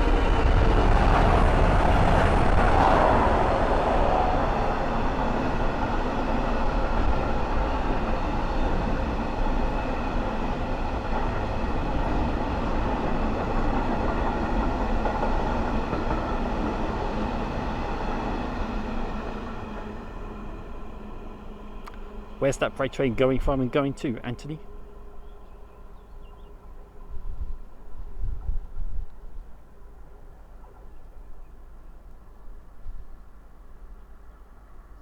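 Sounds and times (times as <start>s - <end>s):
freight train passing: 0.0s - 35.0s.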